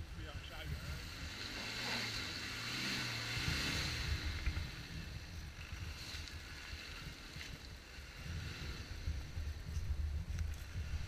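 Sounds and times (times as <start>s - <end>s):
car engine working: 0.0s - 11.0s
wind on microphone: 0.0s - 11.0s.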